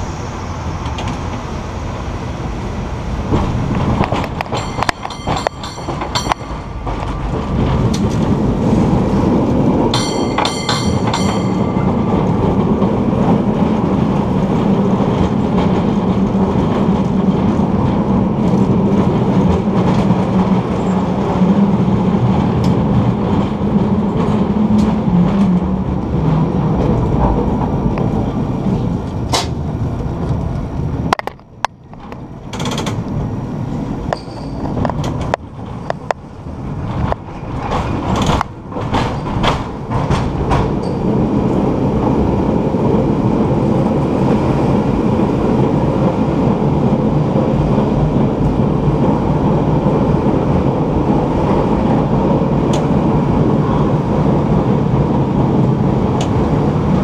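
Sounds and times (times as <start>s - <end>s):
cable car wheels rumbling and clattering: 0.0s - 57.0s.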